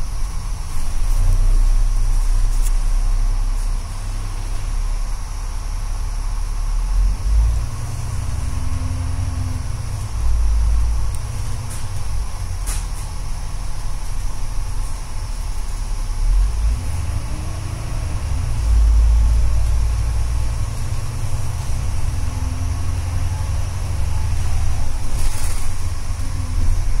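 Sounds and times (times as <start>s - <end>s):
bus engine drone: 0.0s - 27.0s
road rumble: 0.0s - 27.0s.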